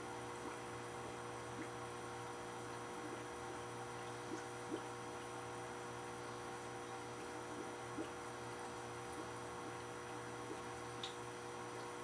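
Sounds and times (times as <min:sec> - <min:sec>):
aquarium equipment humming: 0:00.0 - 0:12.0
soft water drips: 0:00.0 - 0:12.0
water trickling: 0:00.0 - 0:12.0.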